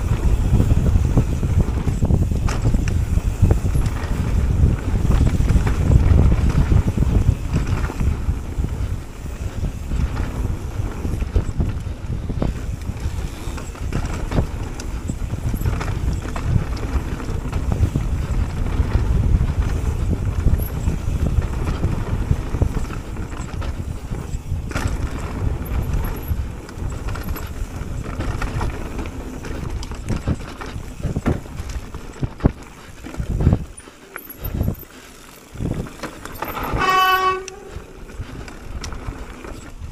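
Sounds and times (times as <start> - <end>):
bike knocks and rattles: 0.0 - 39.9
bike tyres and wind rumble: 0.0 - 39.9.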